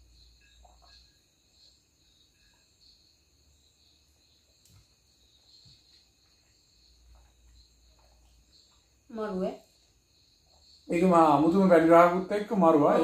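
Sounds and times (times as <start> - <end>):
faint high-pitched chirring: 0.0 - 13.0.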